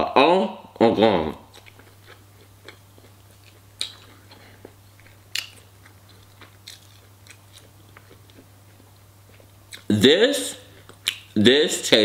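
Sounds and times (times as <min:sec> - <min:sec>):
low steady hum: 0:00.0 - 0:12.0
chewing crispy fried chicken: 0:01.3 - 0:11.4.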